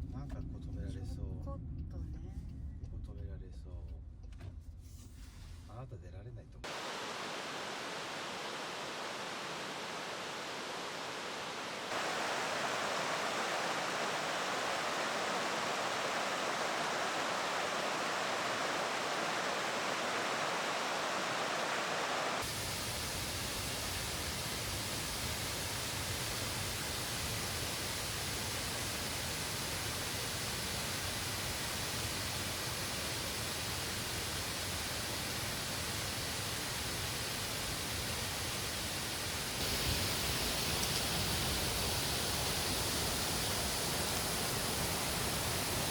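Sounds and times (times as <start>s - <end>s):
water rushing over rapids: 6.7s - 45.9s.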